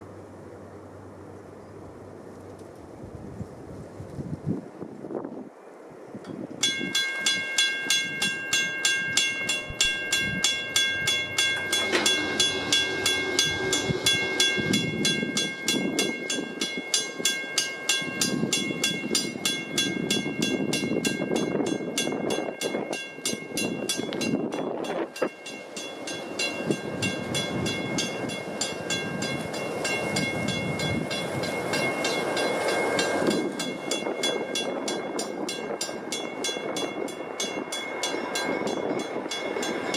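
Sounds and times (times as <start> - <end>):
train rumbling past: 0.0 - 39.9
railroad crossing bell ringing: 6.3 - 39.9.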